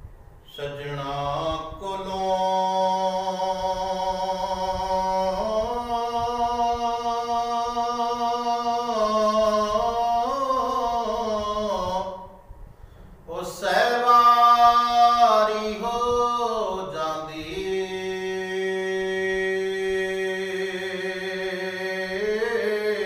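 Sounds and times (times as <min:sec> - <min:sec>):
man singing unaccompanied: 0:00.4 - 0:12.4, 0:13.3 - 0:23.0.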